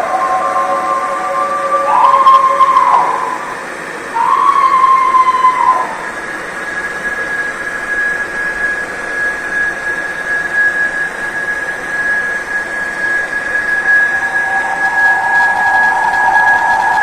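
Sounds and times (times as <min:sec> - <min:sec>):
high-pitched whine: 0:00.0 - 0:17.0
static hiss: 0:00.0 - 0:17.0.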